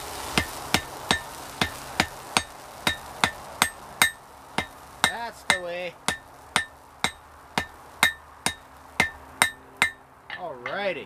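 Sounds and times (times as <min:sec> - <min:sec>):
hammer striking metal on anvil: 0:02.0 - 0:10.9.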